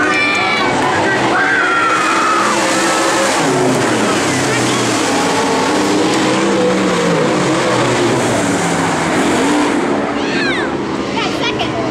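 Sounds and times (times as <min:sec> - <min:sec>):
race car engines: 0:00.0 - 0:11.9.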